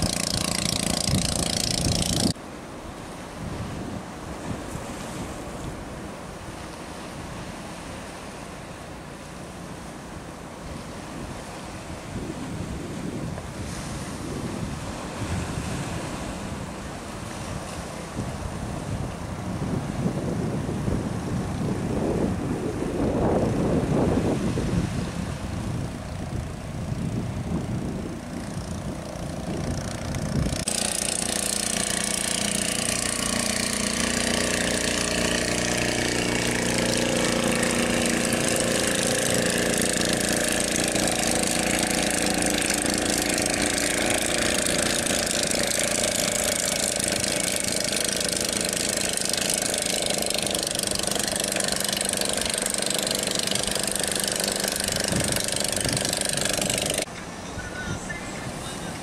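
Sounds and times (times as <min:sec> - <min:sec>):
outboard motor running: 0:00.0 - 0:02.5, 0:03.3 - 0:57.4
wind and surf rumble: 0:00.0 - 0:59.0.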